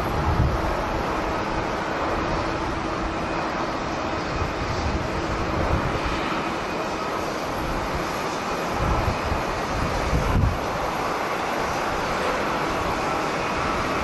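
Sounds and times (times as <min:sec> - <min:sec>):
jet engine rushing: 0:00.0 - 0:14.0
wind on microphone: 0:00.0 - 0:14.0.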